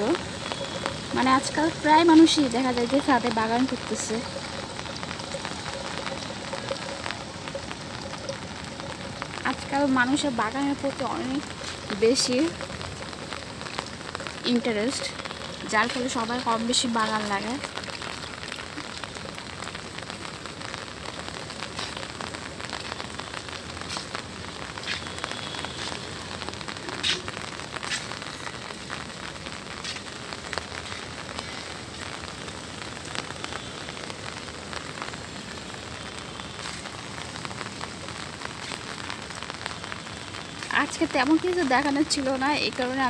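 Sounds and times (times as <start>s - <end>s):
light rain on a tiled roof: 0.0s - 43.0s
sharp ticks of raindrops: 0.0s - 43.0s.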